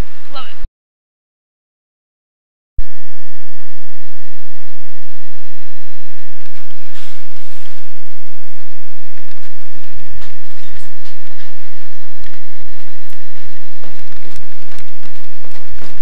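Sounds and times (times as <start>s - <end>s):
high-pitched electrical buzz: 2.8s - 16.0s.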